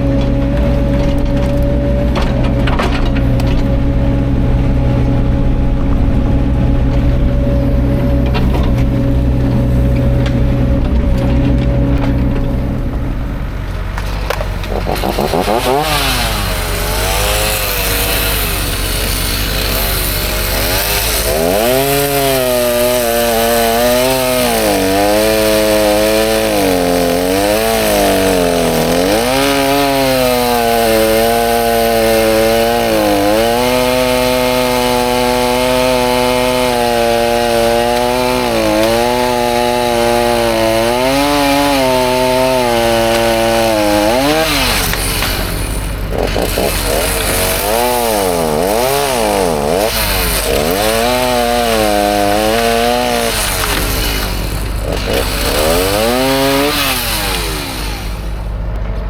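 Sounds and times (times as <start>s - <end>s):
chainsaw cutting through log: 0.0s - 58.8s.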